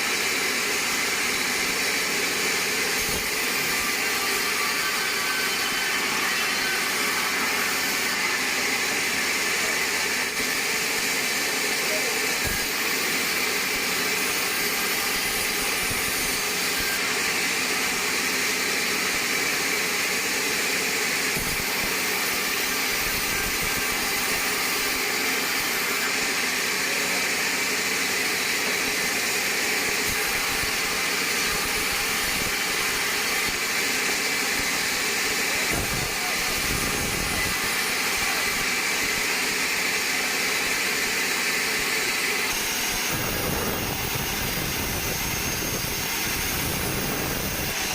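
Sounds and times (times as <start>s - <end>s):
band saw whirring: 0.0s - 47.9s.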